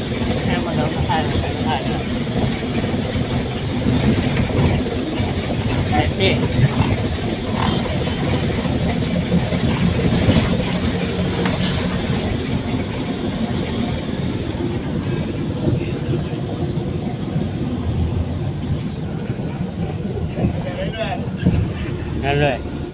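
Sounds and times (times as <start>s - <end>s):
bus engine and road rumble: 0.0s - 22.9s.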